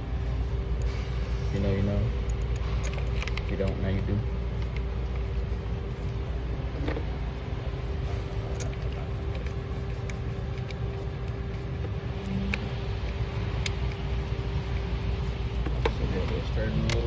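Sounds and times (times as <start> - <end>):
constant hum: 0.0 - 17.0
low mechanical rumble: 0.0 - 17.0.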